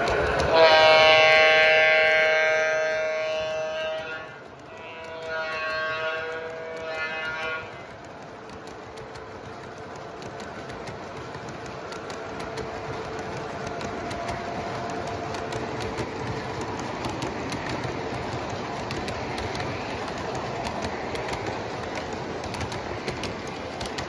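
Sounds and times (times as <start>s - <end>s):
model train wheels rumbling: 0.0s - 24.0s
wheels clicking over rail joints: 0.0s - 24.0s.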